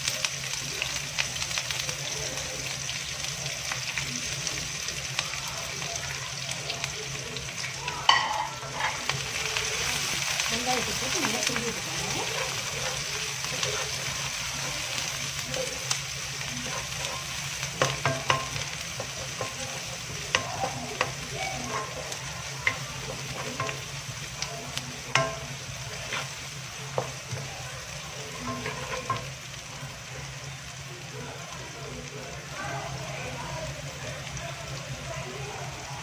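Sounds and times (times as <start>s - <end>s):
onions sizzling in oil: 0.0s - 36.0s.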